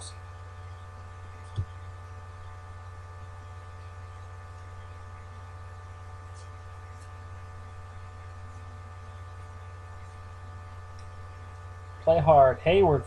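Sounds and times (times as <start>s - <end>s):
electrical mains hum: 0.0s - 13.0s
faint high whine: 0.0s - 13.0s.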